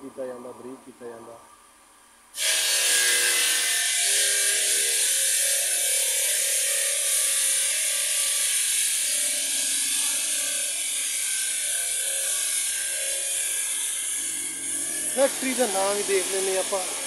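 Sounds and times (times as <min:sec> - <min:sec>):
cutting machine grinding hiss: 0:02.4 - 0:17.0.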